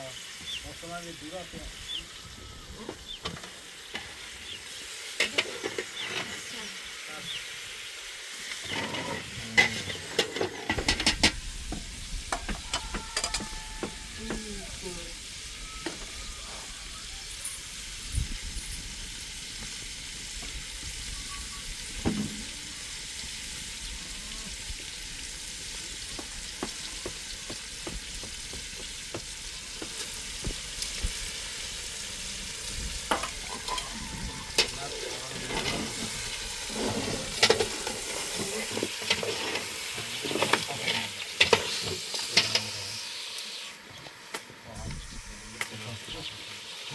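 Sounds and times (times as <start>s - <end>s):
food sizzling in a pan: 0.0s - 46.9s.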